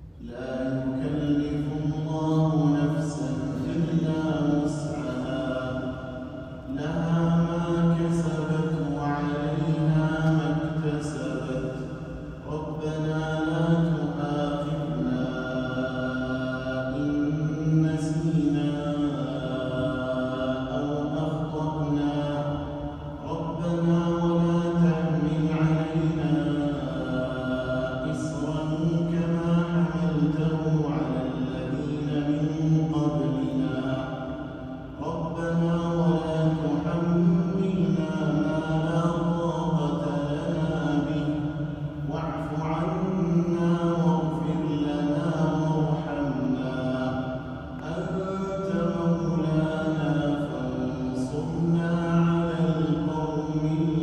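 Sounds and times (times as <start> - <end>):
man chanting melodically: 0.0 - 54.0.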